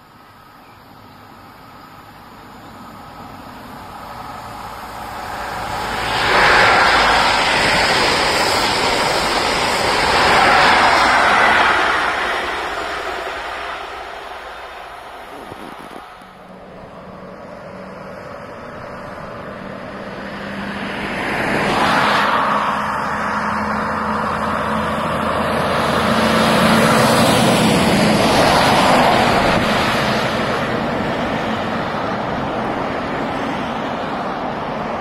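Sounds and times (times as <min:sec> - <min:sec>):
vehicle passing: 0:01.9 - 0:35.0
lorry passing: 0:02.5 - 0:35.0.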